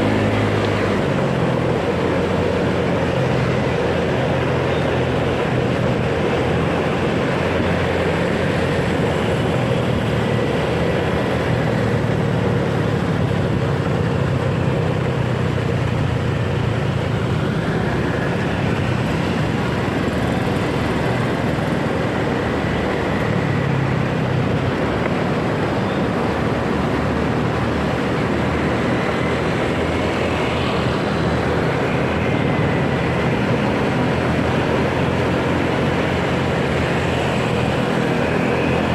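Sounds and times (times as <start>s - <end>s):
motorcycle running: 0.0s - 38.9s
road traffic: 0.0s - 38.9s.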